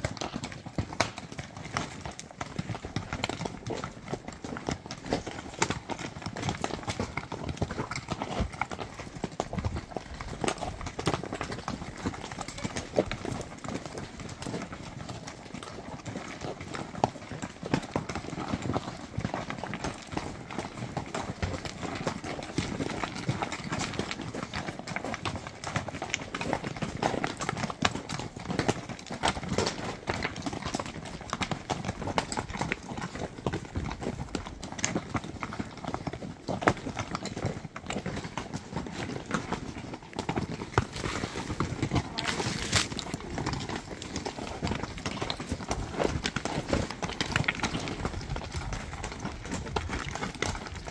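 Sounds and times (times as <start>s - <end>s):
hooves clip-clopping on stones: 0.0s - 50.9s.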